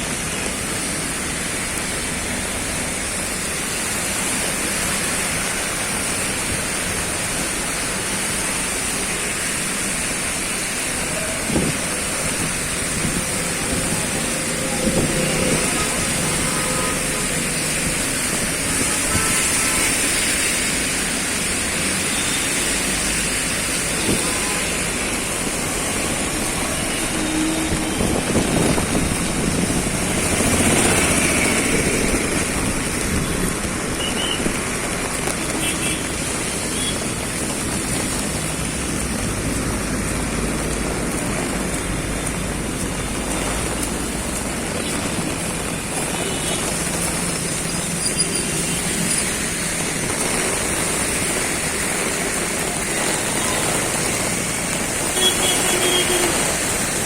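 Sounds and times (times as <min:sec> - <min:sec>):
rain hissing: 0:00.0 - 0:57.0
vehicle noise: 0:00.0 - 0:57.0.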